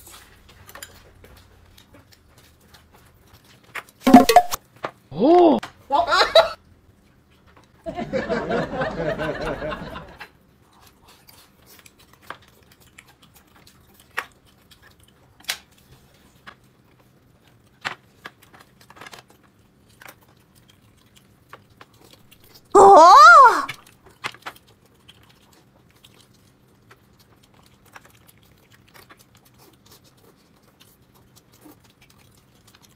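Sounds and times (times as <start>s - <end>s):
person chewing and crunching: 0.0s - 4.6s, 10.5s - 32.9s.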